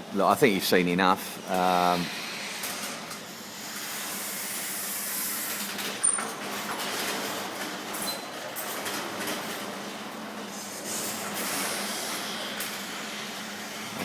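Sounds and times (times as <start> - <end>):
garage door opener running: 1.3 - 14.0.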